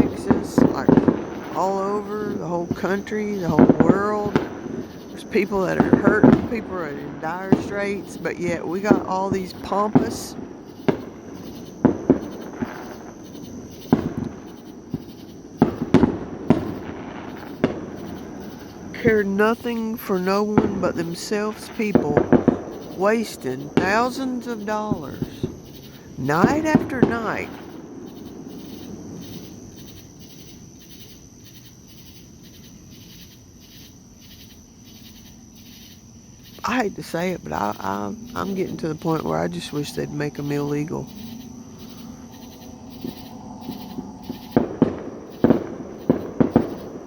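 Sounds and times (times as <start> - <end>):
fireworks bangs with echo: 0.0 - 30.1, 36.6 - 47.0
insects chirping: 0.0 - 47.0.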